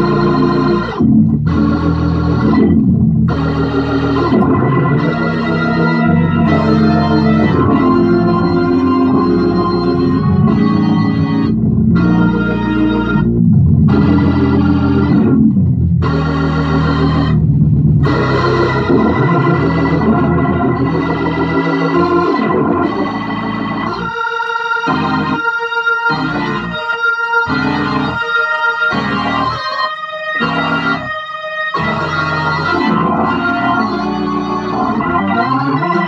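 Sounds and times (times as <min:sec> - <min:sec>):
organ chords through rotating speaker: 0:00.0 - 0:36.0.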